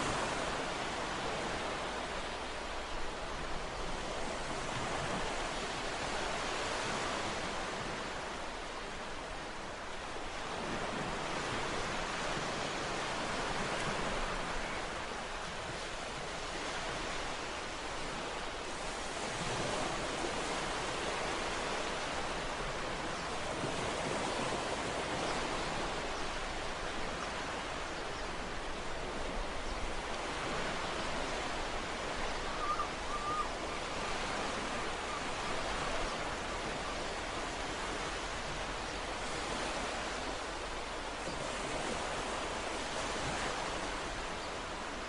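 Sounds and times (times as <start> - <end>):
ocean surf washing ashore: 0.0 - 45.0.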